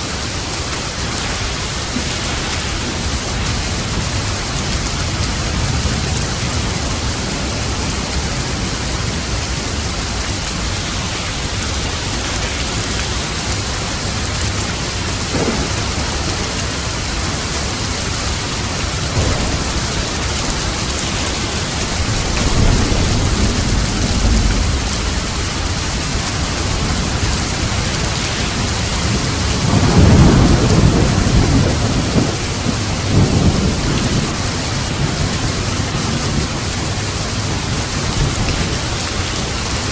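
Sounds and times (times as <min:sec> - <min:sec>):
rolling thunder: 0:00.0 - 0:39.9
steady rain: 0:00.0 - 0:39.9.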